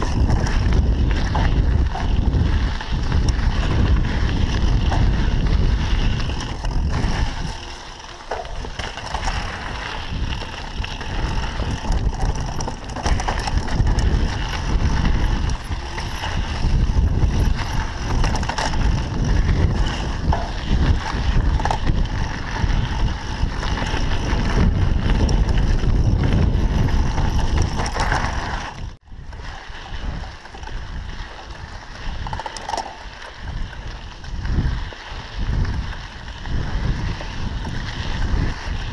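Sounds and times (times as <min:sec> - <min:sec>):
bike rattling over bumps: 0:00.0 - 0:38.9
tyres on dirt: 0:00.0 - 0:38.9
wind buffeting microphone: 0:00.0 - 0:38.9.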